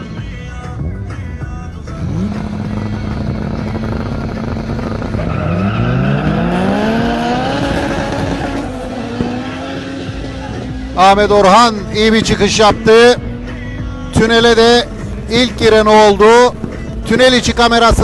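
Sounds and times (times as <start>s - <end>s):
race car engines accelerating: 1.7s - 18.0s.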